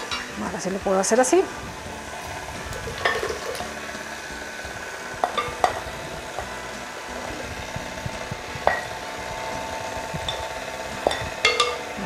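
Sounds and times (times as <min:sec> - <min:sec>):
stand mixer running: 0:00.0 - 0:12.0.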